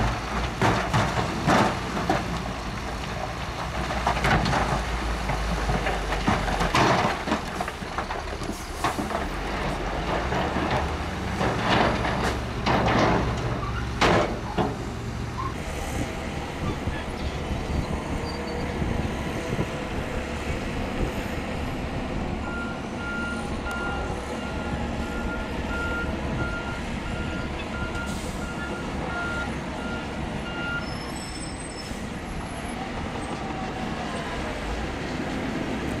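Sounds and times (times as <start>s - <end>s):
heavy diesel engines running: 0.0s - 36.0s.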